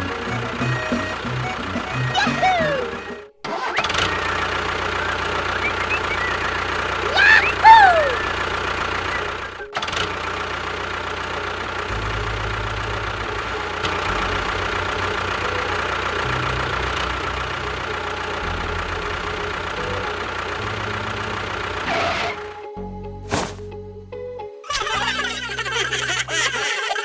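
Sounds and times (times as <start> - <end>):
engine idling: 0.0 - 22.5.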